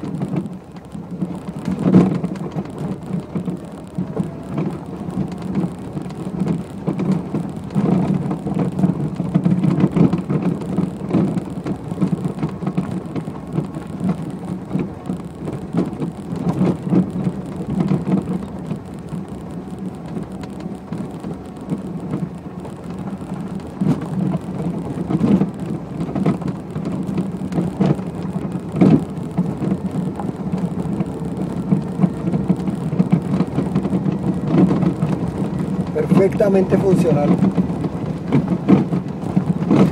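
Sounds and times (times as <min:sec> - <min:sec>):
suspension knocking: 0:00.0 - 0:39.9
tyres rumbling on dirt road: 0:00.0 - 0:39.9.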